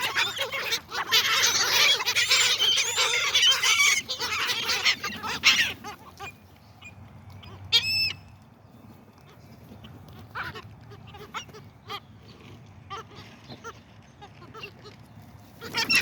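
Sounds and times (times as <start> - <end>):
gulls calling: 0.0 - 16.0.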